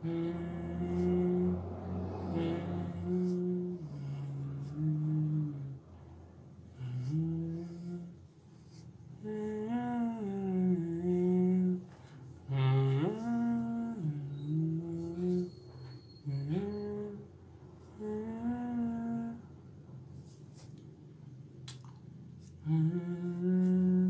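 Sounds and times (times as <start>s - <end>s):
man humming a slow tune: 0.0s - 5.9s, 6.6s - 19.7s, 22.4s - 24.0s.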